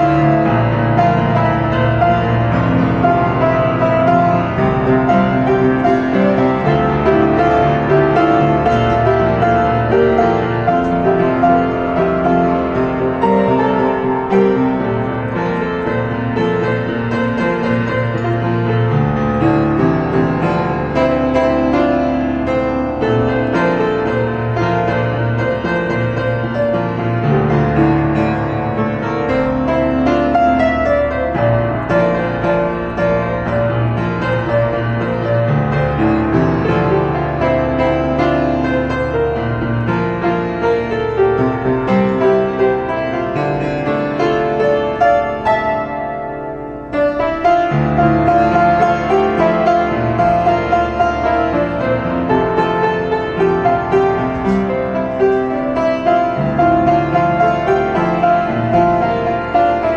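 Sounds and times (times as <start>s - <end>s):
piano ballad melody: 0.0s - 59.9s.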